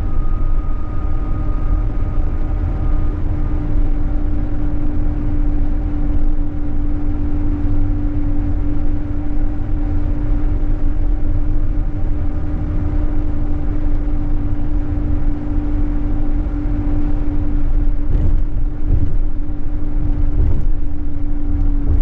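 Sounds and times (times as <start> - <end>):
coach diesel engine drone: 0.0 - 22.0
tyre road rumble: 0.0 - 22.0.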